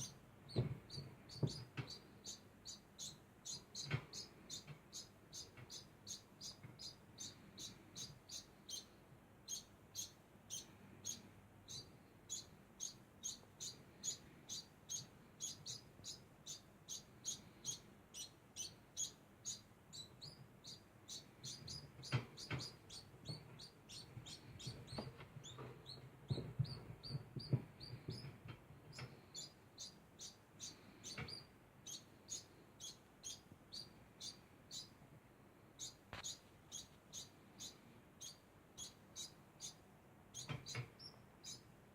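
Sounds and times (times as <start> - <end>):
rodent chirping squeaks: 0.0 - 28.3, 28.9 - 35.0, 35.8 - 41.7.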